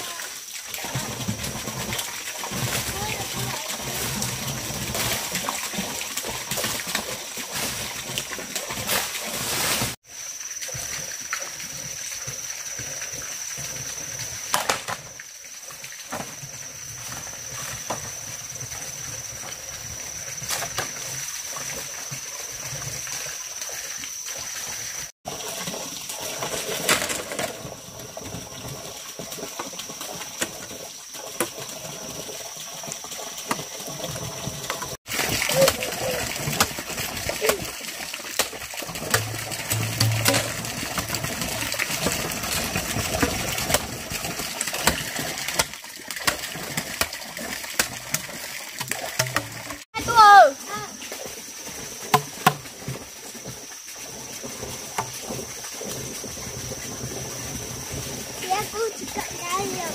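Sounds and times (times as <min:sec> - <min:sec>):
water splashing and trickling: 0:00.0 - 0:59.9.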